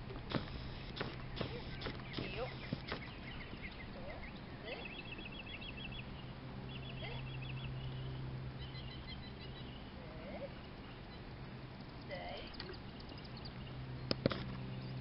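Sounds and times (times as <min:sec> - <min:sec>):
steady low hum: 0:00.0 - 0:15.0
small bird chirping rapidly: 0:00.5 - 0:09.9, 0:11.0 - 0:15.0.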